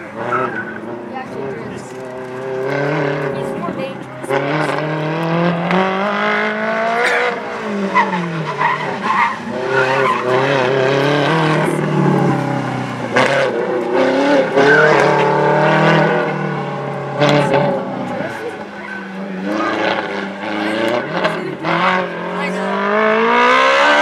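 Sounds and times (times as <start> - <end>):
sports car engine revving: 0.0 - 24.0.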